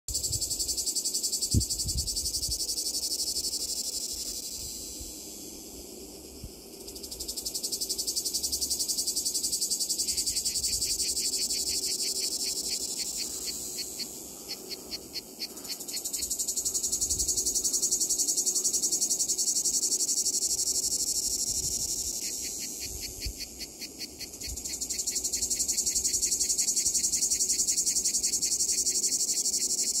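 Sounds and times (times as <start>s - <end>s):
cicada continuous buzz: 0.1s - 30.0s
cicada rapid pulsing song: 0.1s - 30.0s.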